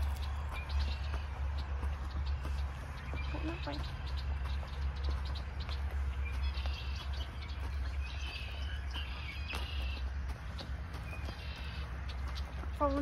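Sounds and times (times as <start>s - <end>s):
horse hooves on gravel: 0.0s - 13.0s
small birds chirping: 0.0s - 13.0s.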